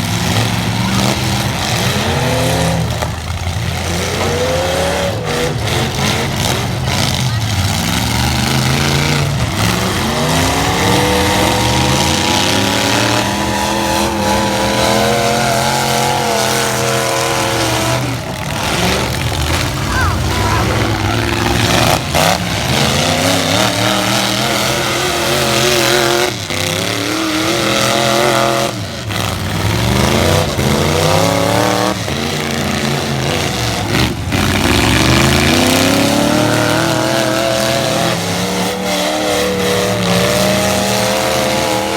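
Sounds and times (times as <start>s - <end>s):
truck engines revving hard: 0.0s - 41.9s.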